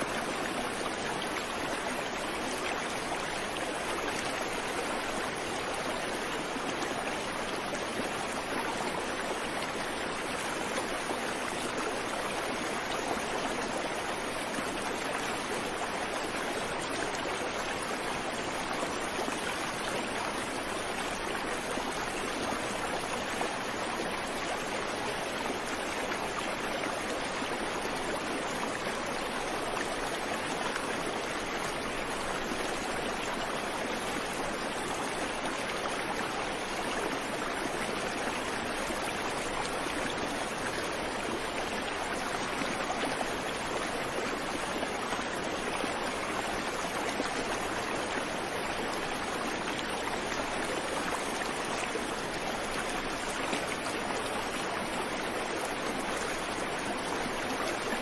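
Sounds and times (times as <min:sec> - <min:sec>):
creek water flowing over stones: 0:00.0 - 0:58.0.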